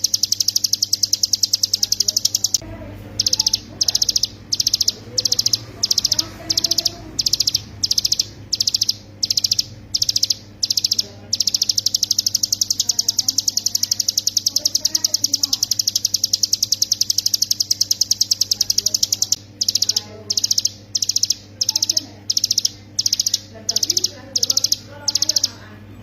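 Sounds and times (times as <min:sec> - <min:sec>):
bird drilling trill: 0:00.0 - 0:02.6, 0:03.2 - 0:25.6.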